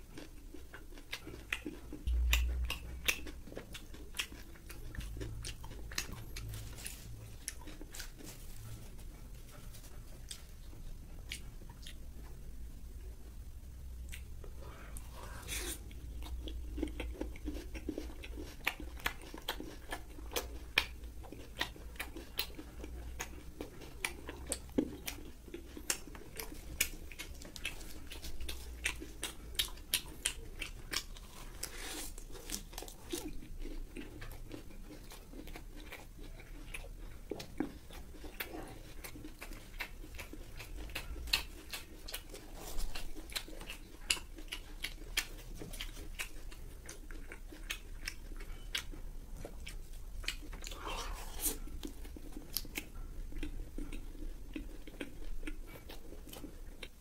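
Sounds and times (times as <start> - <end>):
crunchy chewing: 0.0 - 12.6, 14.0 - 57.0.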